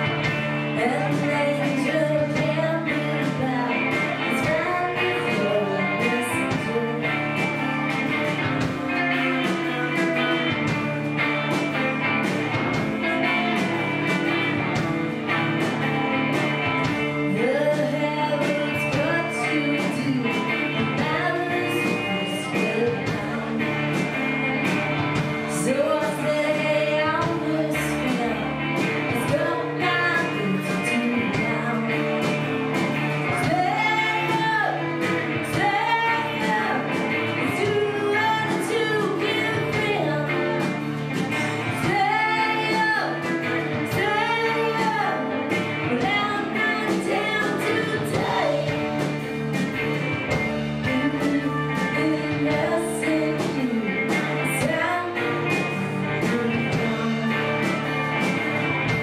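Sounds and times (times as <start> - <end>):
person singing: 0.0 - 10.9, 15.3 - 49.2, 50.7 - 57.8
electric guitars: 0.0 - 59.0
rock band playing live: 0.0 - 59.0.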